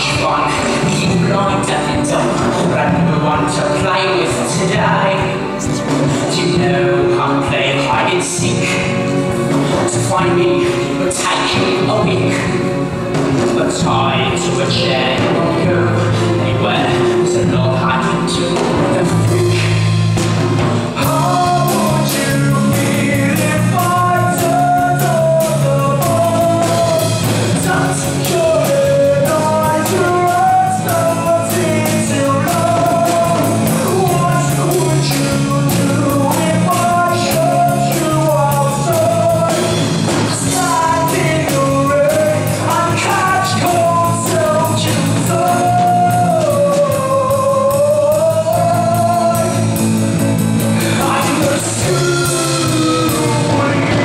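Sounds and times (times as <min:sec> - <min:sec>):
bass: 0:00.0 - 0:54.0
man singing: 0:00.0 - 0:54.0
rock band playing: 0:00.0 - 0:54.0
steady drum beat: 0:00.0 - 0:54.0.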